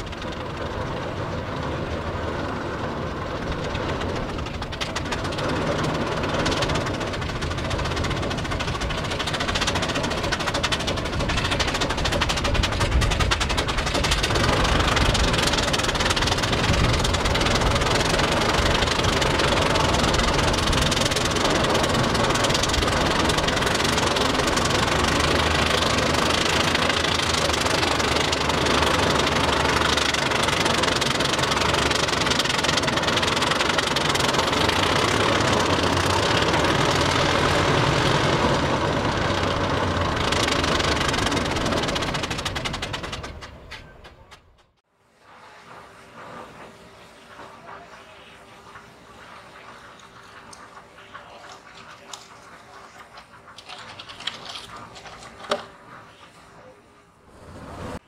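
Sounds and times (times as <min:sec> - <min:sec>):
steam engine knocking: 0:00.0 - 0:44.4, 0:47.4 - 0:56.1.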